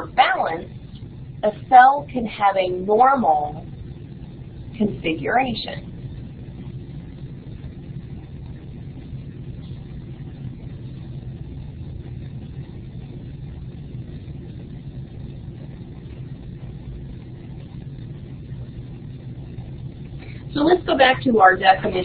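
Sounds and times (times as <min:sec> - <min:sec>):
low hum and rumble: 0:00.0 - 0:22.0.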